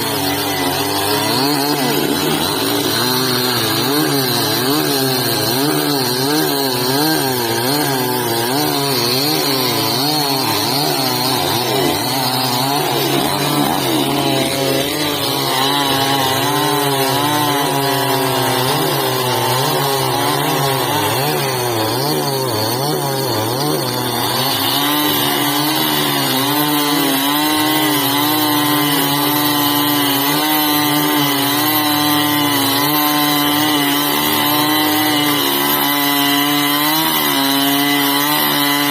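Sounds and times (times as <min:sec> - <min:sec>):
chainsaw cutting a tree: 0:00.0 - 0:38.9.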